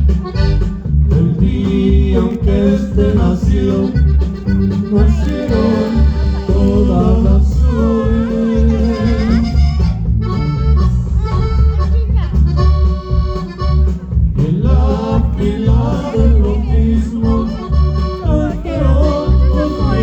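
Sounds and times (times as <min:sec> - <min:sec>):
accordion: 0:00.0 - 0:20.0
live band playing: 0:00.0 - 0:20.0
pulsing bass beat: 0:00.0 - 0:20.0.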